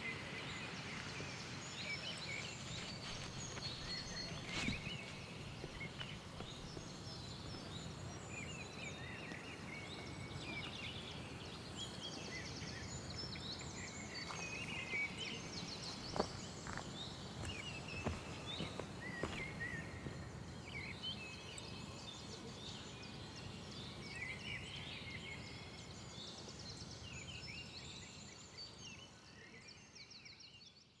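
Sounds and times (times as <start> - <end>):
low background noise: 0.0 - 31.0
songbirds chirping and trilling: 0.0 - 31.0.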